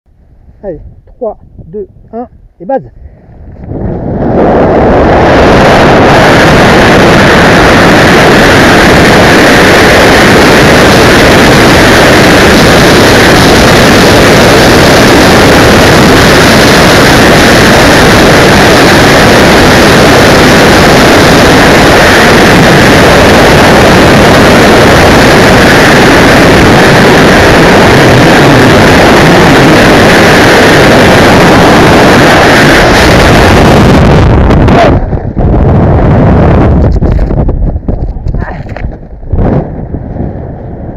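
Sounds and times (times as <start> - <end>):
freefall wind rush on microphone: 0.1 - 40.9.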